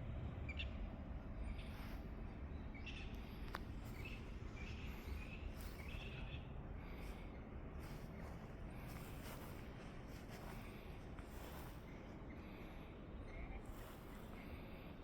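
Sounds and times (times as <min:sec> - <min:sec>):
steady low rumble: 0:00.0 - 0:15.0
birds chirping: 0:00.4 - 0:14.9.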